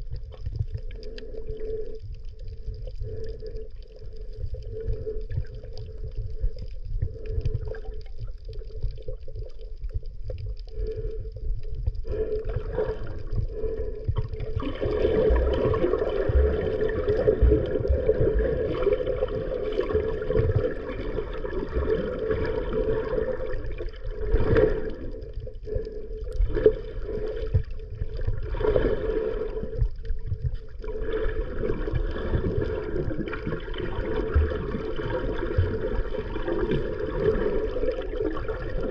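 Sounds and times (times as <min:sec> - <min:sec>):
muffled underwater water movement: 0:00.0 - 0:38.9.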